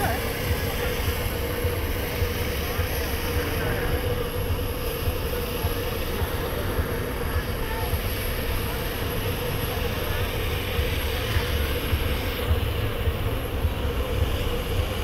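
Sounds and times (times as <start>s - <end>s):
distant aircraft engine drone: 0.0s - 15.0s.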